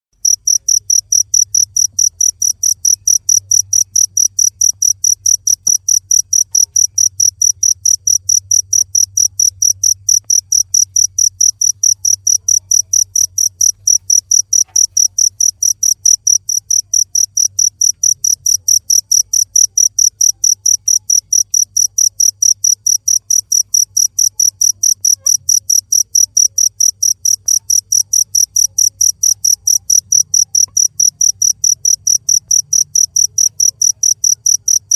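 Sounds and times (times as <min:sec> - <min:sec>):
cricket chirping: 0:00.2 - 0:34.9.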